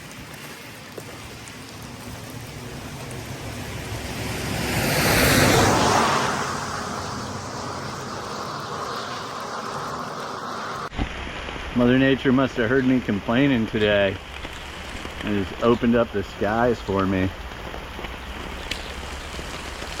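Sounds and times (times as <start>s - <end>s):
heavy rain hiss: 0.0s - 20.0s
vehicle passing on wet road: 0.0s - 20.0s.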